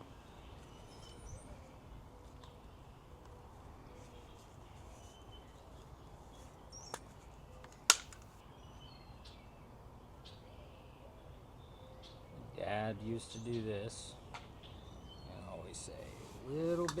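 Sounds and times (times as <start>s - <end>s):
distant bird chirps: 0.0s - 17.0s.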